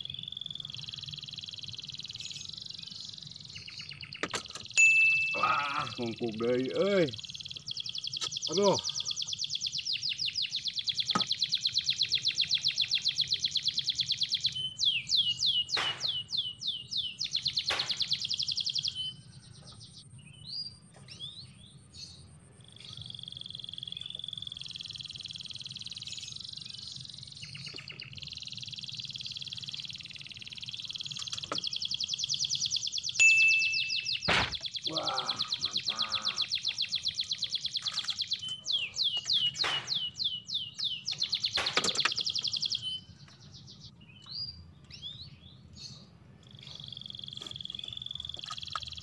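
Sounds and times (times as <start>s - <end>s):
chirps: 0.0s - 49.0s.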